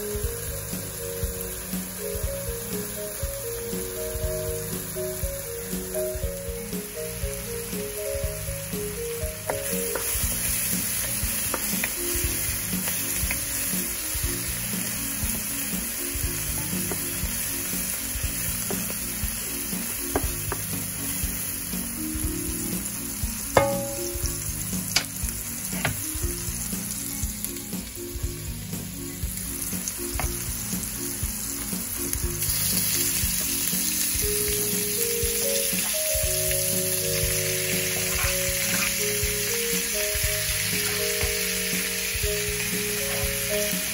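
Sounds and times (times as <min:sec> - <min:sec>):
vegetables sizzling in oil: 0:00.0 - 0:43.9.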